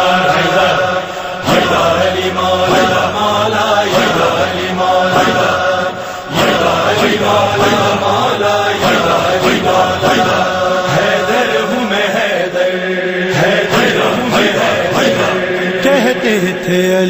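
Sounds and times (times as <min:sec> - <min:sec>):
voices chanting melodic line: 0:00.0 - 0:17.0.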